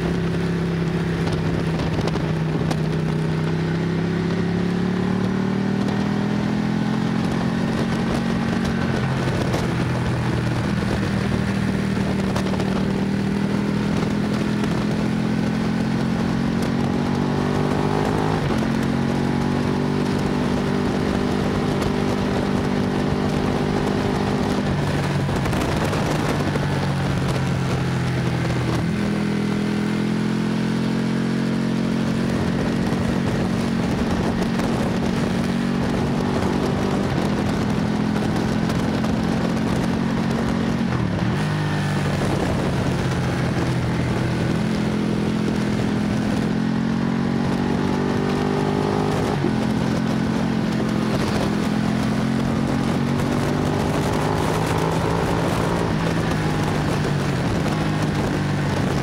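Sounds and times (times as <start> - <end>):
motorcycle engine accelerating: 0.0 - 59.0
wind rushing: 3.6 - 59.0.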